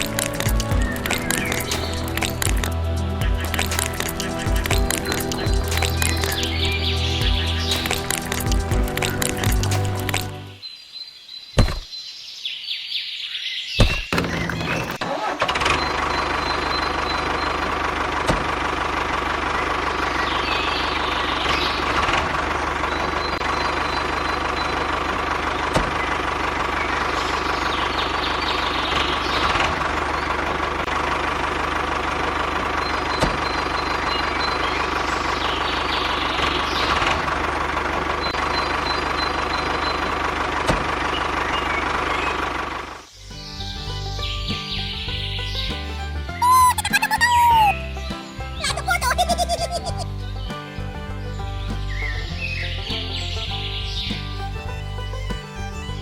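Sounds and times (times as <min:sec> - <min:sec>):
engine idling with whine: 0:00.0 - 0:10.6, 0:14.2 - 0:49.1, 0:50.0 - 0:56.0.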